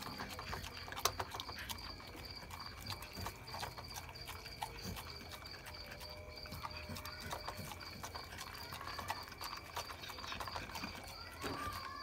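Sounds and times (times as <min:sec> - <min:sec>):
dog chewing and lip-smacking: 0:00.0 - 0:12.0.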